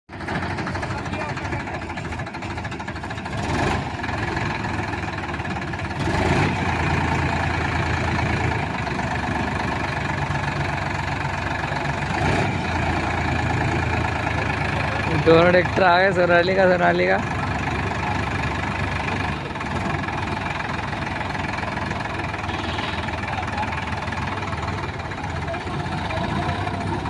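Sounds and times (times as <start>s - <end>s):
tractor diesel engine running: 0.1s - 27.0s.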